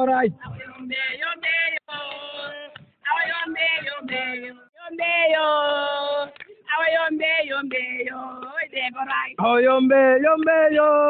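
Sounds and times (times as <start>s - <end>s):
people singing: 0.4s - 11.0s.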